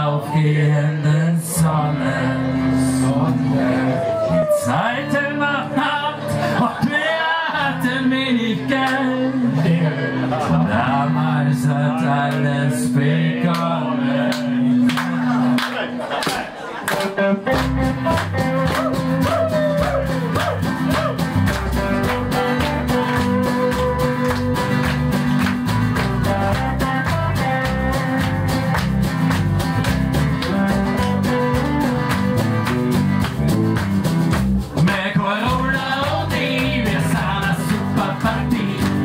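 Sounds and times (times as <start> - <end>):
bass line: 0.0 - 16.1, 17.0 - 39.0
acoustic guitars strumming: 0.0 - 39.0
electric guitar strumming: 1.6 - 39.0.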